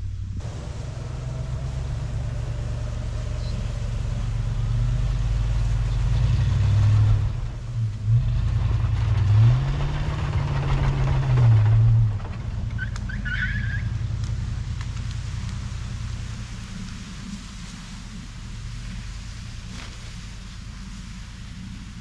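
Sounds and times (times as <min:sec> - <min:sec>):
pickup truck engine under load: 0:00.2 - 0:20.2.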